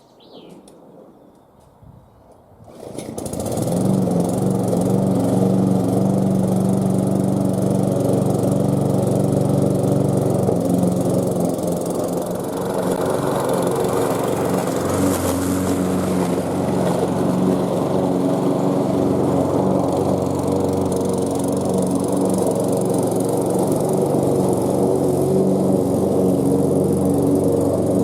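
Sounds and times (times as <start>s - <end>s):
lawn mower engine running: 2.7s - 28.0s.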